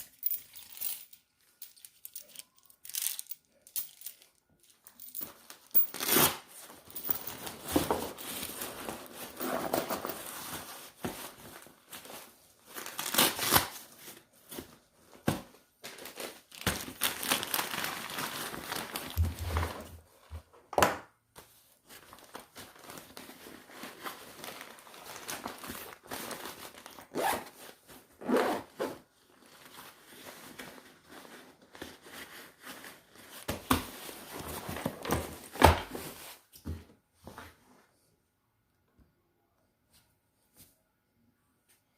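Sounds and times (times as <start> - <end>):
fabric and packaging rustling: 0.0 - 20.7, 21.3 - 37.9.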